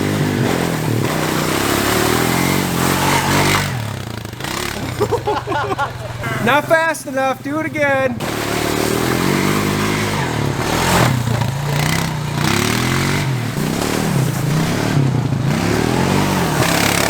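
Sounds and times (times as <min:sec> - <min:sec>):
engine revving at full throttle: 0:00.0 - 0:17.0.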